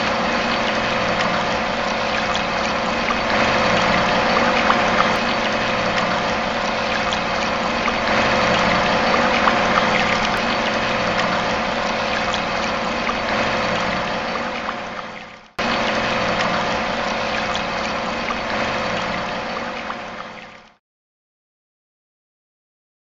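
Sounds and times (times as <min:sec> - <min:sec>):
water pump motor hum: 0:00.0 - 0:20.8
water rushing and splashing: 0:00.0 - 0:20.8.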